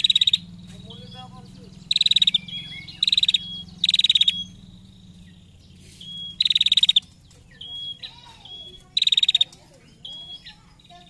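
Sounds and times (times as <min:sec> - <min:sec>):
bird buzzy rattling trills: 0:00.0 - 0:11.0
steady low hum: 0:00.0 - 0:11.0
thin whistled bird notes: 0:00.0 - 0:11.0.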